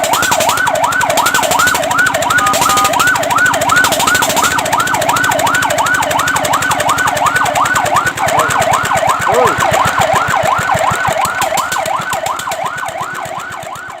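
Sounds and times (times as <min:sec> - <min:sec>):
fire truck siren yelping: 0:00.0 - 0:14.0.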